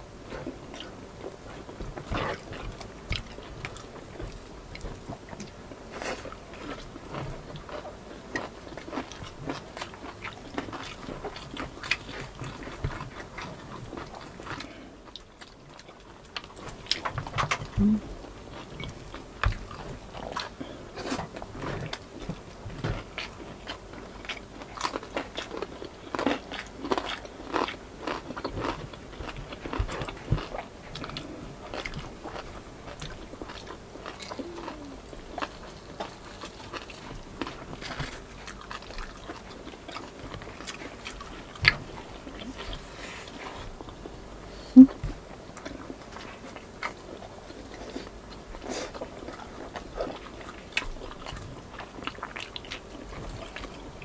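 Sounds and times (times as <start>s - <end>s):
crunchy chewing of crispy pork: 0.0s - 54.0s.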